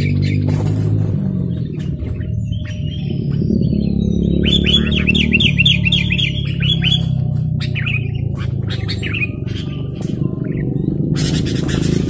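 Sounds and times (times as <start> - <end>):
low background music: 0.0 - 12.0
bird calling sharp notes: 1.5 - 12.0.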